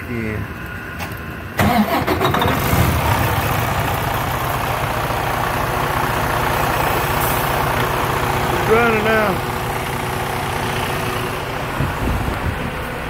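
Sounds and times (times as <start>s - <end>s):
diesel truck engine idling: 1.2s - 13.0s.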